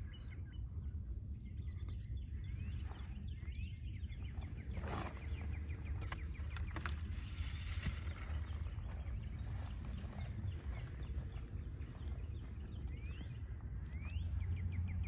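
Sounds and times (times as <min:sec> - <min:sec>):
steady low rumble: 0:00.0 - 0:15.0
wild birds chirping: 0:00.0 - 0:15.0.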